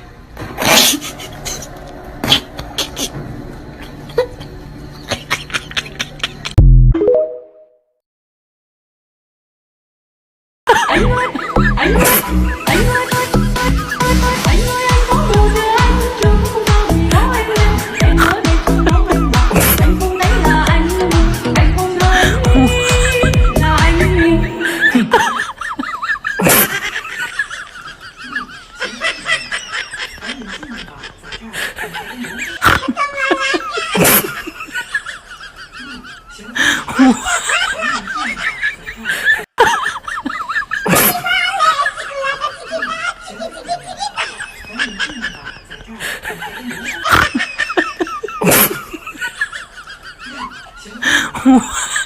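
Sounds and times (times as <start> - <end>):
high-pitched laughter: 0.6 - 6.6, 10.7 - 14.6, 17.8 - 20.7, 22.0 - 52.0.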